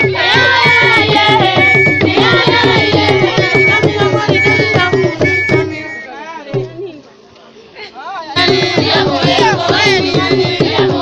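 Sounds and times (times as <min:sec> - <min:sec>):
voices singing: 0:00.0 - 0:06.7, 0:08.2 - 0:11.0
hand drum beating: 0:00.0 - 0:07.0, 0:08.4 - 0:11.0.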